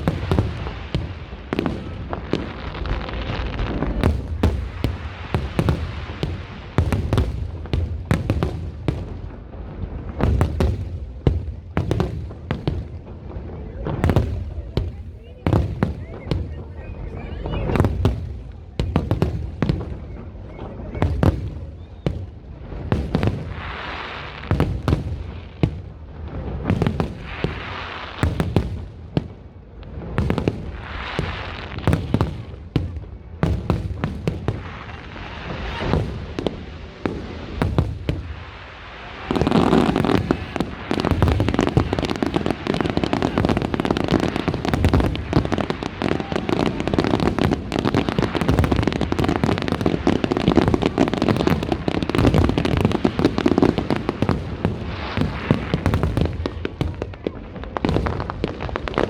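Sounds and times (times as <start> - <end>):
fireworks booming: 0.0 - 59.0
fireworks crackling: 0.0 - 59.0.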